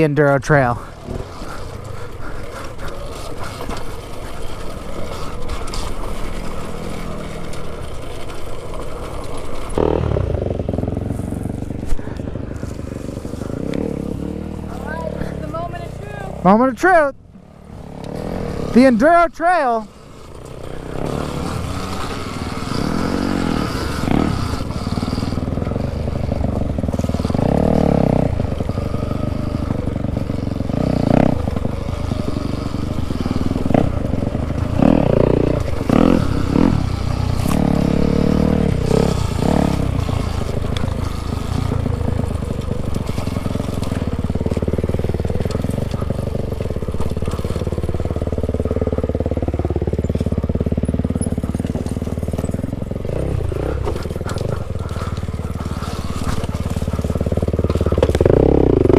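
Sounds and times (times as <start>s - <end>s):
bikes clattering over rough ground: 0.0s - 58.9s
dirt bikes droning: 0.0s - 58.9s.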